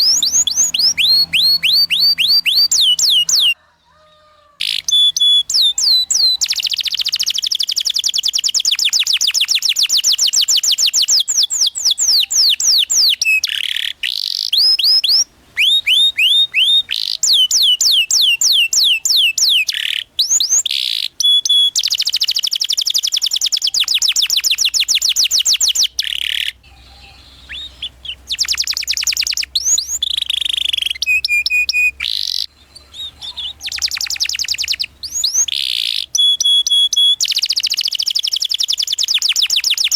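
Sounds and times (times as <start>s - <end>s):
canary singing trills: 0.0s - 3.6s, 4.6s - 39.9s.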